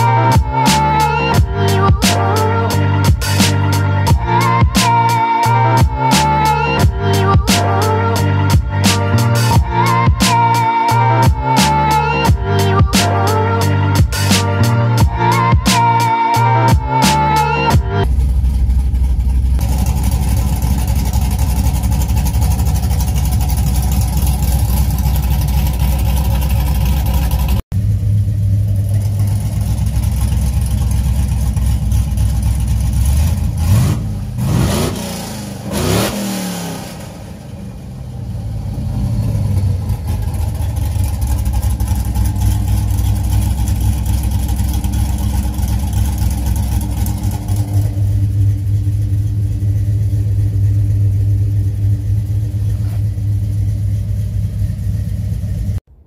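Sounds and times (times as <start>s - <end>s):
engine idling and revving: 0.0s - 56.0s.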